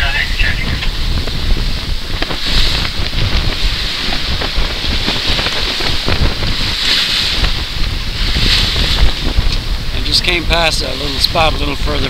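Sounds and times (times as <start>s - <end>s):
waves rushing along hull: 0.0s - 12.0s
wind buffeting microphone: 0.0s - 12.0s.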